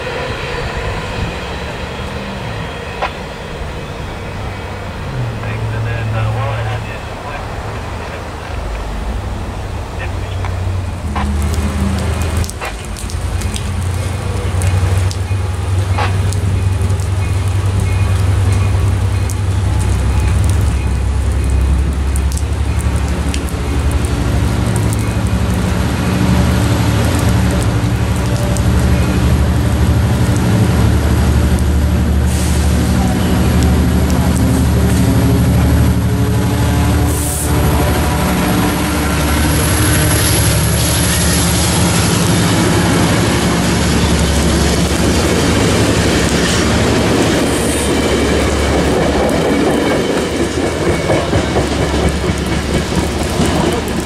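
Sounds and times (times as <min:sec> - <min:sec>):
diesel locomotive engine rumbling: 0:00.0 - 0:54.0.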